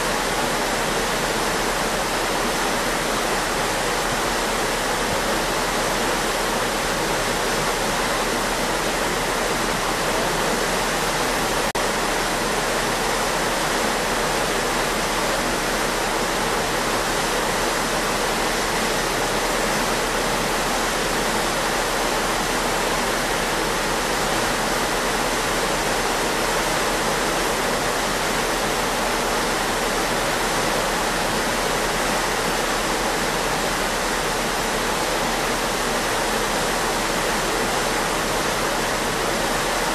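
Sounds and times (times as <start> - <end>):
water rushing in ship's wake: 0.0 - 39.9.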